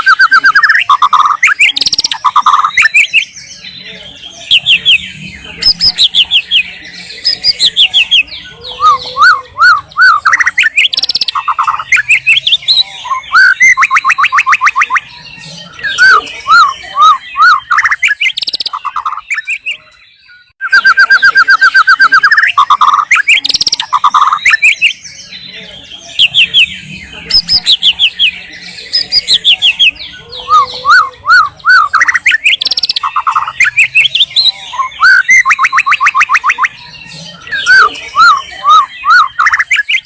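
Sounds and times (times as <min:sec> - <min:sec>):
songbird singing whistles and trills: 0:00.0 - 0:40.0.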